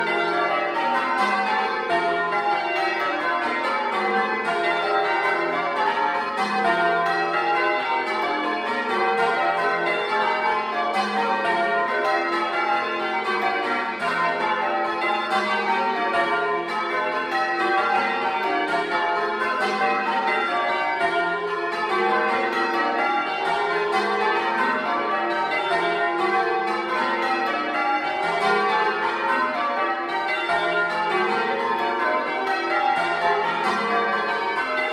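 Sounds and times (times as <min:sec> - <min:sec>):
church bells ringing changes: 0:00.0 - 0:34.9.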